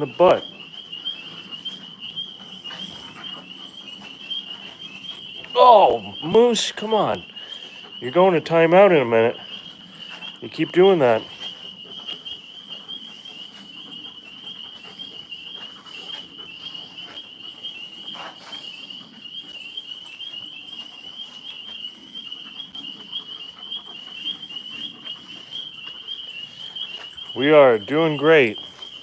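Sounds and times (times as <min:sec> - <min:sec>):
tree frogs trilling: 0:00.0 - 0:29.0.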